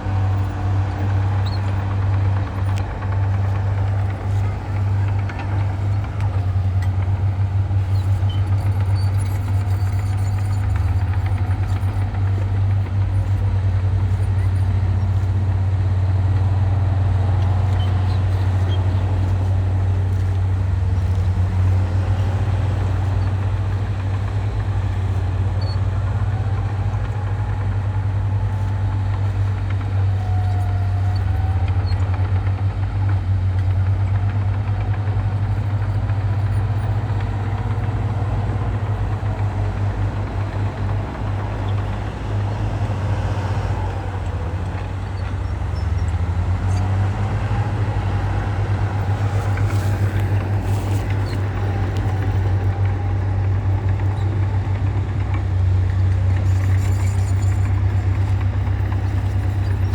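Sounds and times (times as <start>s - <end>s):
diesel engine droning: 0.0s - 59.9s
faint whines: 0.0s - 59.9s.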